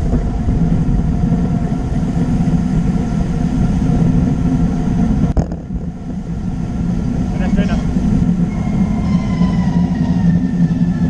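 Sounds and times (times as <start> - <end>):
bike tyre noise: 0.0 - 11.0
wind buffeting microphone: 0.0 - 11.0.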